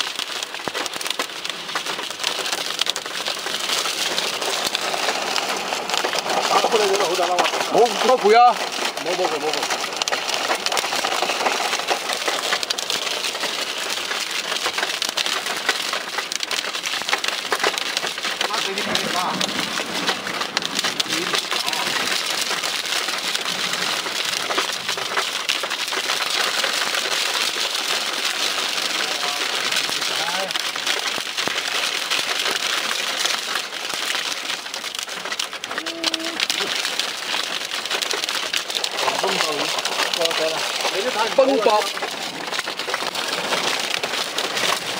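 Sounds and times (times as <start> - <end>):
hail pelting car roof: 0.0 - 44.9.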